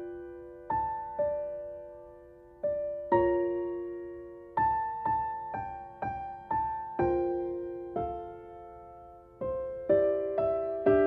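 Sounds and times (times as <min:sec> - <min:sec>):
slow soft piano notes: 0:00.0 - 0:11.0.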